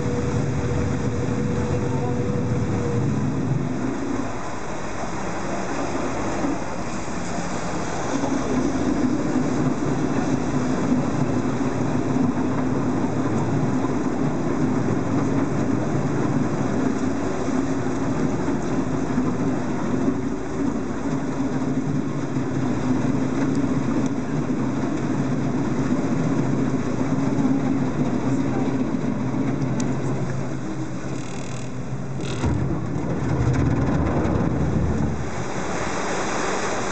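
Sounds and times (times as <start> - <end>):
boat engine humming: 0.0 - 36.9
rushing water and air: 0.0 - 36.9.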